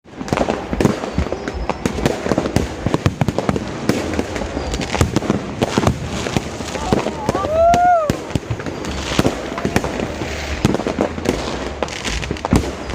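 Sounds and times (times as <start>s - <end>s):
fireworks bangs and crackles: 0.0s - 12.9s.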